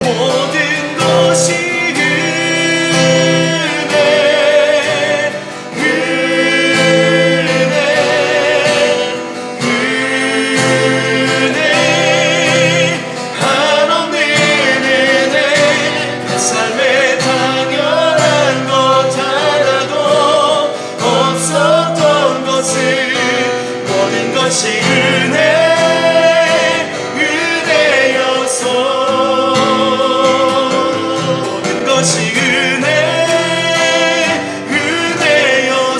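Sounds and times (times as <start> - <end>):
person singing worship song: 0.0 - 35.9.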